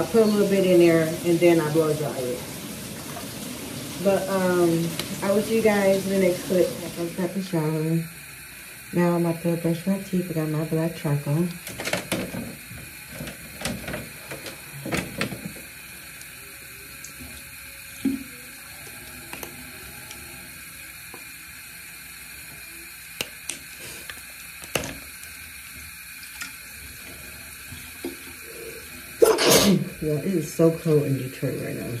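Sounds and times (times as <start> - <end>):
bathroom tap running: 0.0 - 32.0.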